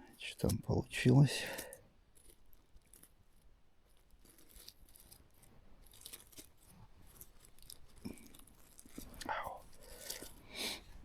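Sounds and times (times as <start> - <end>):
food packaging crinkling: 1.4 - 11.0.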